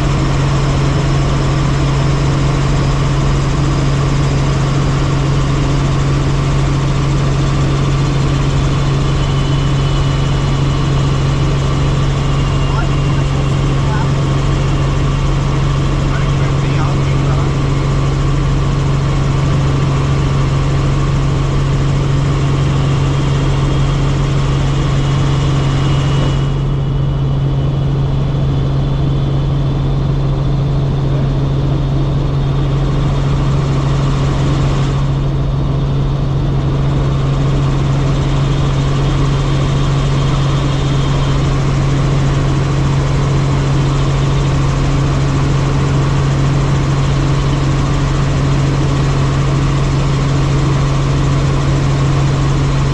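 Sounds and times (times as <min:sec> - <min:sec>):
helicopter rotor and turbine drone: 0:00.0 - 0:52.9.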